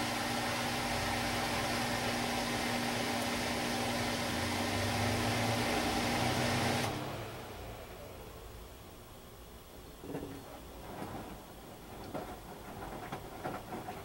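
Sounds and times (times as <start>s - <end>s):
washing machine motor whine: 0.0s - 14.0s.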